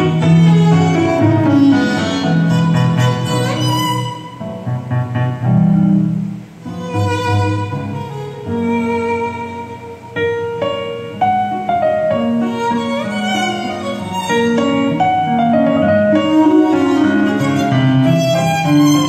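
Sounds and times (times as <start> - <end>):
low string accompaniment: 0.0 - 19.0
violin melody: 0.0 - 19.0.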